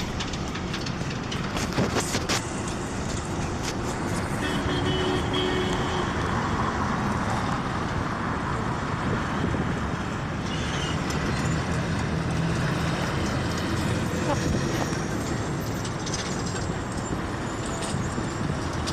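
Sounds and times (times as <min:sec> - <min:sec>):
surrounding traffic: 0:00.0 - 0:18.9
vehicle road noise: 0:00.0 - 0:18.9.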